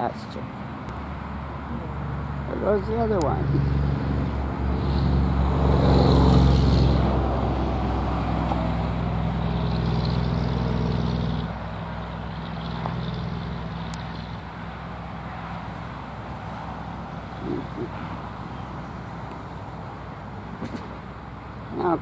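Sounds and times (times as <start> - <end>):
vehicle engine running: 0.7 - 22.0.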